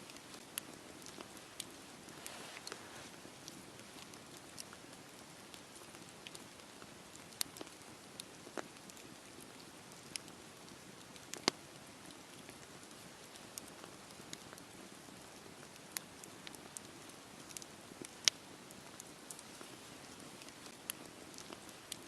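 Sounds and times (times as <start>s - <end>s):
wood crackling and popping: 0.0s - 22.0s
campfire flames hissing: 0.1s - 22.0s.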